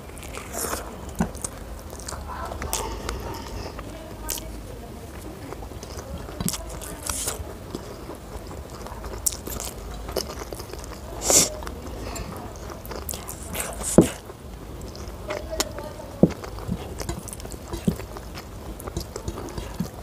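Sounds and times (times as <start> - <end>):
chewing with wet smacks: 0.0 - 20.0.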